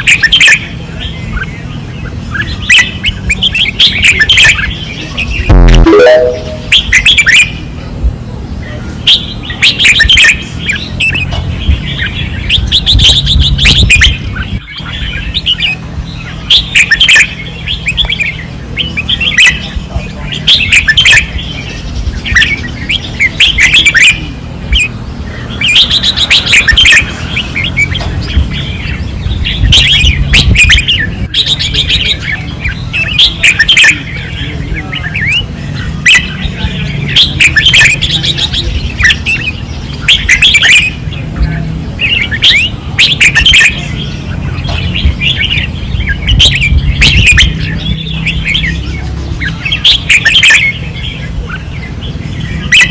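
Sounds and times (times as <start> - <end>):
bulbuls singing: 0.0 - 52.9.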